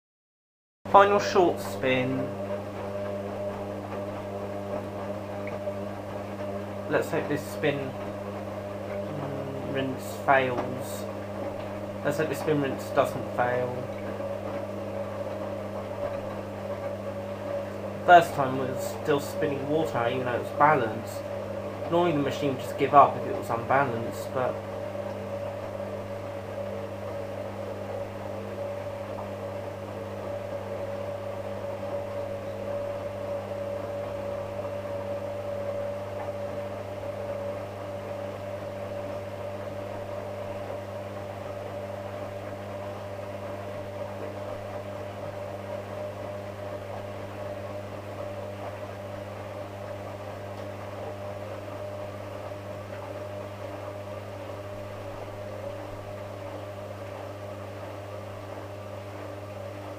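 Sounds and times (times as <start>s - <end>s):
washing machine motor whine: 0.9s - 59.9s.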